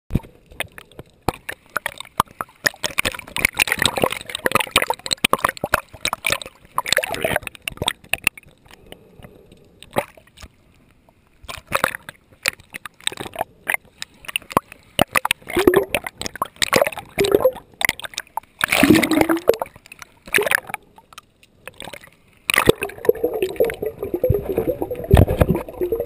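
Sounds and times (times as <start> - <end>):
sharp underwater clicks crackling: 0.1 - 10.6, 11.4 - 26.0
muffled underwater water sloshing: 0.1 - 26.0.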